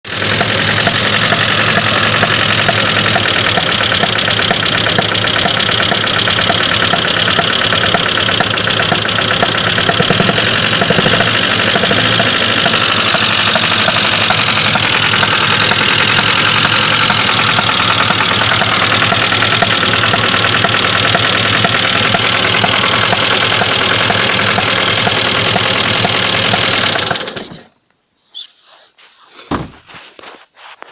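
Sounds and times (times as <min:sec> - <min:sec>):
engine running with rapid knocking: 0:00.0 - 0:27.8.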